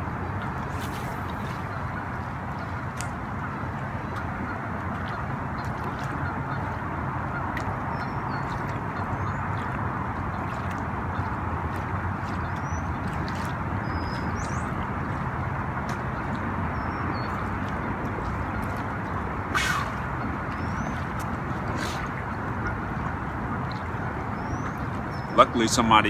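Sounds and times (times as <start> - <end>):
rushing outdoor background noise: 0.0 - 26.0.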